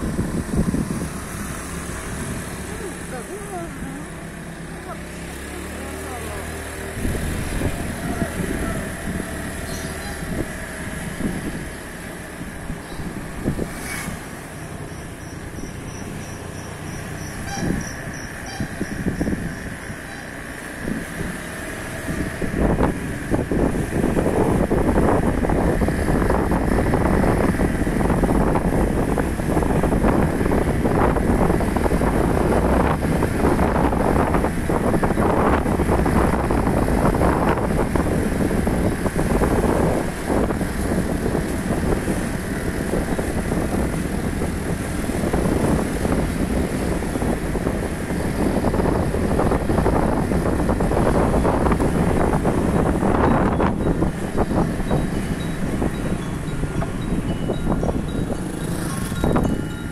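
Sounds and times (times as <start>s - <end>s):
low vehicle rumble: 0.0s - 59.9s
wind buffeting microphone: 0.0s - 59.9s.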